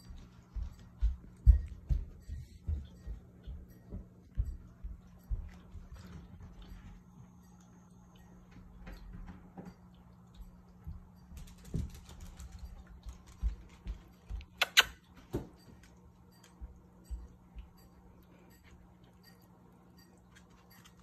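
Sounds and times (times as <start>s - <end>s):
puppies clicking and rustling: 0.0s - 21.0s
steady low hum: 0.0s - 21.0s.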